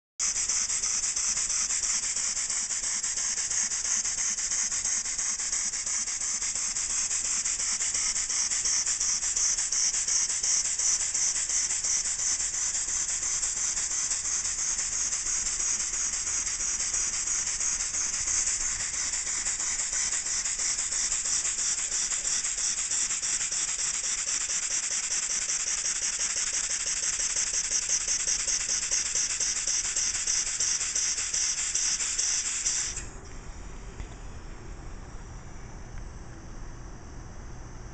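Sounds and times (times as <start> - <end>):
air engine chuffing: 0.3 - 33.2.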